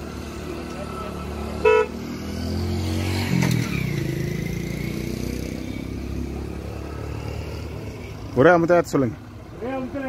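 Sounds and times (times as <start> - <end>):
motorcycle passing by: 0.0 - 10.0.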